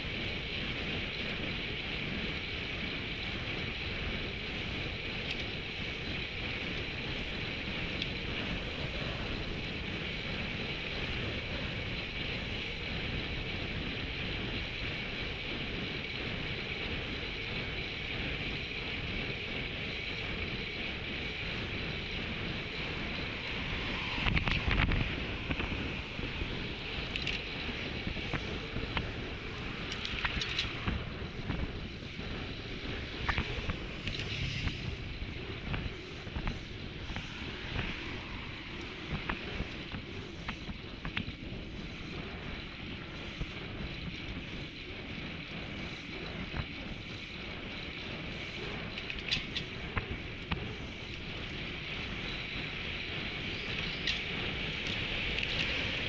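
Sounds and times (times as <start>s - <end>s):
tyres rumbling on asphalt: 0.0s - 56.0s
wind buffeting microphone: 0.0s - 56.0s.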